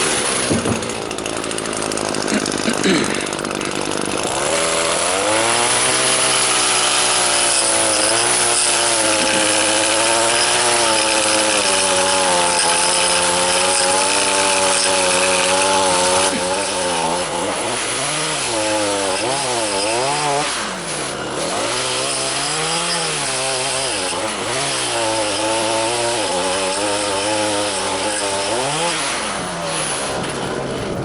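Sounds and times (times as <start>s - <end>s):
two-stroke edger engine revving: 0.0s - 31.0s.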